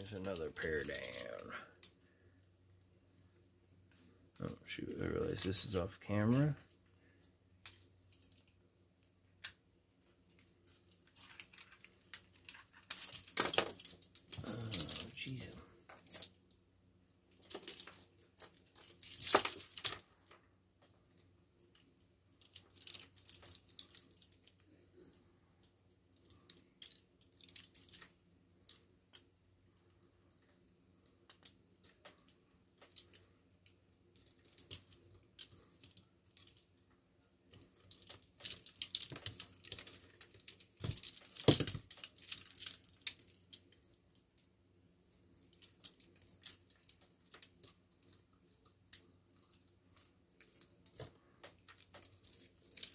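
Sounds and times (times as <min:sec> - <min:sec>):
handcuff chains clinking and rattling: 0:00.0 - 0:02.1, 0:04.4 - 0:44.4, 0:45.0 - 0:52.9.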